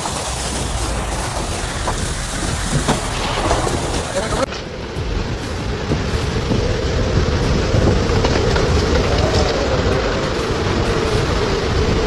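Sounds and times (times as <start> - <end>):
wavering hum: 0.0 - 12.0
wind buffeting microphone: 0.0 - 12.0.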